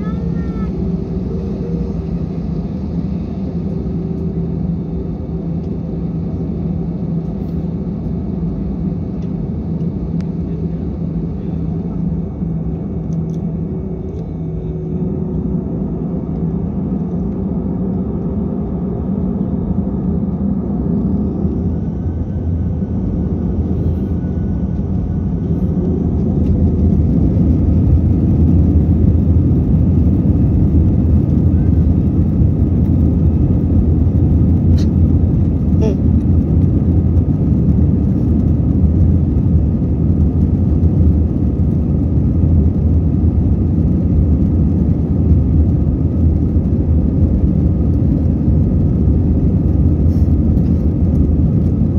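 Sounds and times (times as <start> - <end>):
jet engines roaring in cabin: 0.0 - 51.9.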